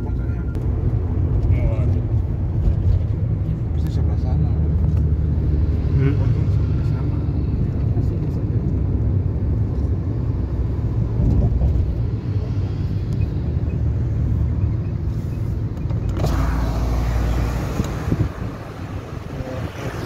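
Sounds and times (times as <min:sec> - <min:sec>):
car road rumble: 0:00.0 - 0:20.0
wind and tyre hiss: 0:00.8 - 0:20.0.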